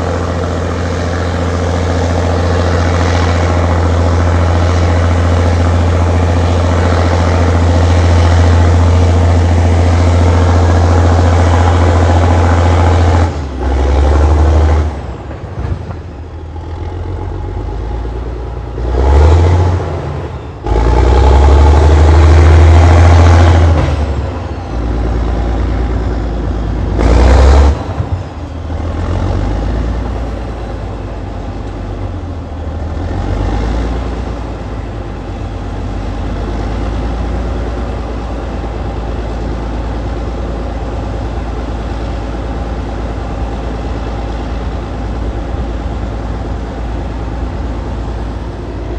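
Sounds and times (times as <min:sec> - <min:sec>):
bulldozer diesel engine under load: 0:00.0 - 0:48.9.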